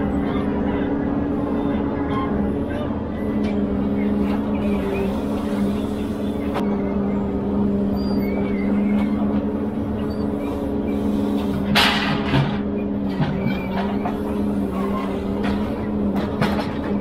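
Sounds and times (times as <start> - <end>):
diesel engine and hydraulics drone: 0.0 - 17.0.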